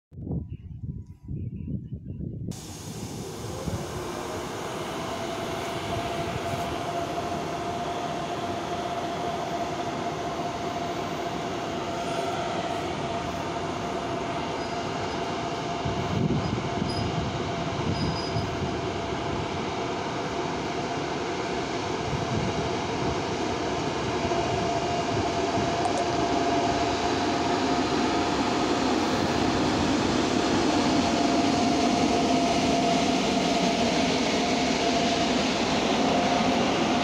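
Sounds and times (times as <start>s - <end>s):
electric locomotive whine: 2.5s - 37.0s
train wheels rumbling on rail: 2.5s - 37.0s.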